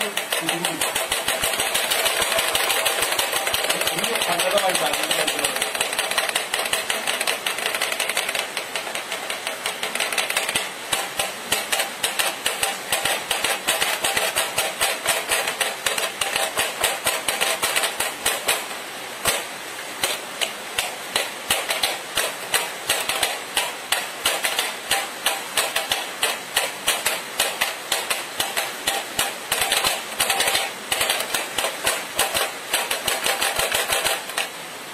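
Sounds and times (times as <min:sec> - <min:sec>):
fast drumming on a box: 0:00.0 - 0:34.5.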